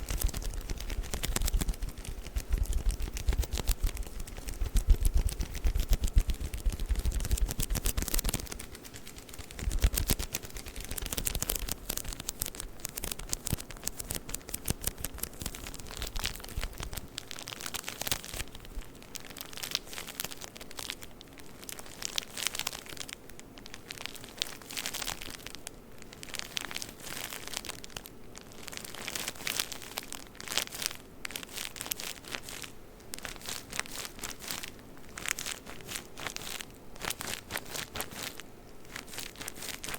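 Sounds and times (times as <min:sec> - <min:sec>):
tissue paper crinkling: 0:00.0 - 0:39.9.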